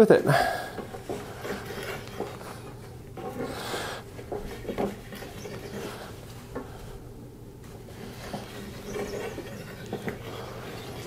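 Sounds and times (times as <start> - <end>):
marking gauge scratching wood: 0.8 - 6.7, 7.9 - 11.0.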